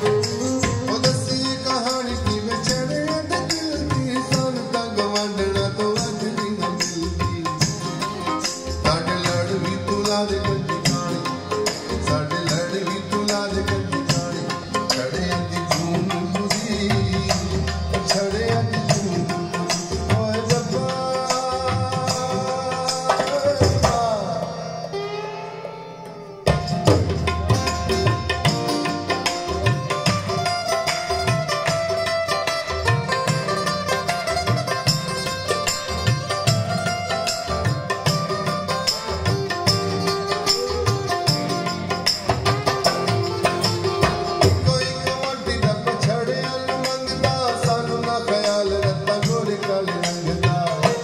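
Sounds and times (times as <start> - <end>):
hand drums: 0.0 - 51.0
plucked string instrument: 0.0 - 51.0.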